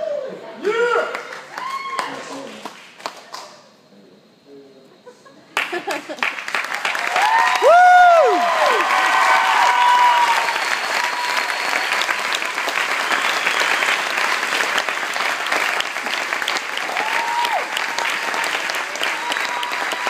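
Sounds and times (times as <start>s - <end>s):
crowd applauding: 1.1s - 3.6s, 5.6s - 20.0s.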